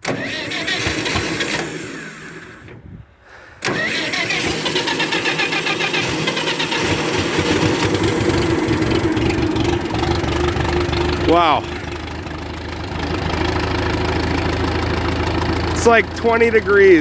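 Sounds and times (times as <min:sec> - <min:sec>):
tractor engine starting: 0:00.0 - 0:17.0.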